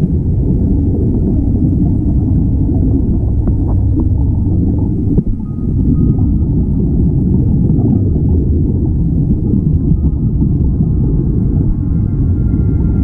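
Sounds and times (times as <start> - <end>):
underwater air bubbling: 0.0 - 13.0.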